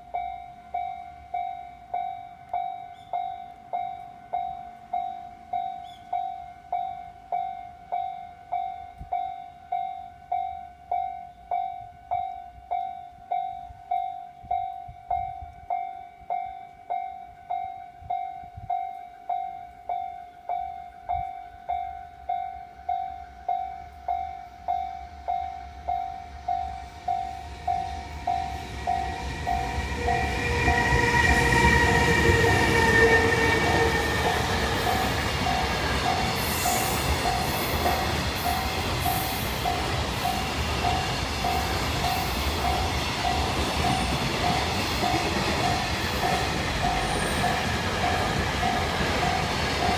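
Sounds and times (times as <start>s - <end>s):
level crossing warning bell: 0.0s - 49.9s
train passing: 0.0s - 49.9s.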